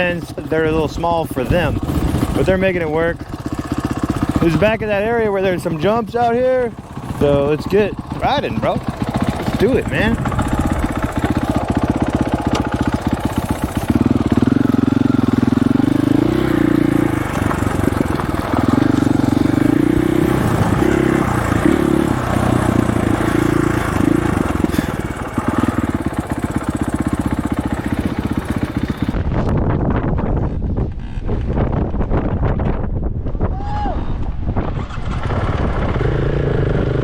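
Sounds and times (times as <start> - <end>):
dirt bike engine revving: 0.0 - 29.2, 34.7 - 37.0.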